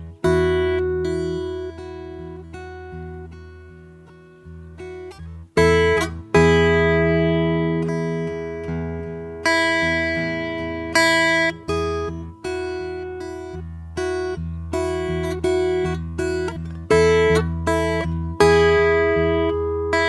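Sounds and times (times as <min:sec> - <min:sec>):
acoustic guitar plucked softly: 0:00.0 - 0:20.0.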